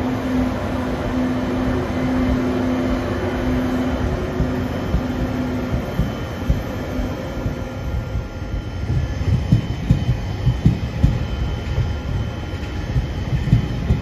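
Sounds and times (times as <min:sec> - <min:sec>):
humming tone: 0:00.0 - 0:14.0
train wheels rumbling on track: 0:00.0 - 0:14.0.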